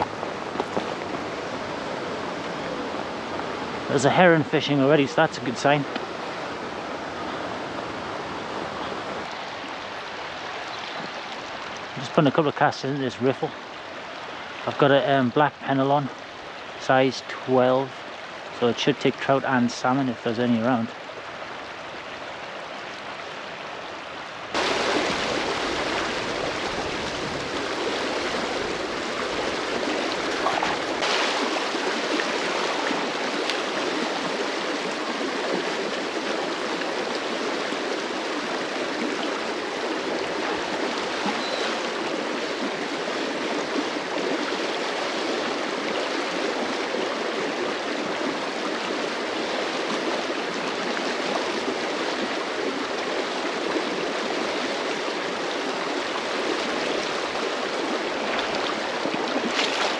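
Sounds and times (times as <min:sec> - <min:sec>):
river water running over riffle: 0:00.0 - 0:59.9.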